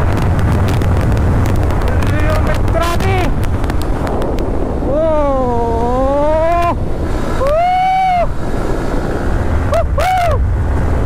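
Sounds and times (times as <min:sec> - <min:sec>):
motorcycle engine rumble: 0:00.0 - 0:11.0
wind on microphone: 0:00.0 - 0:11.0.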